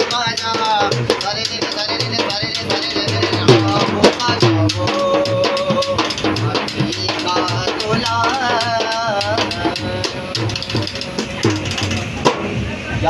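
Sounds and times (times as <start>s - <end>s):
man singing: 0.0s - 12.0s
hand drum beating: 0.0s - 12.6s.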